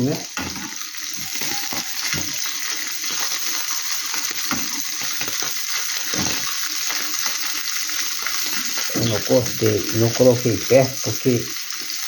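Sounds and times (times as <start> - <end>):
cheese sizzling in a pan: 0.0 - 12.0.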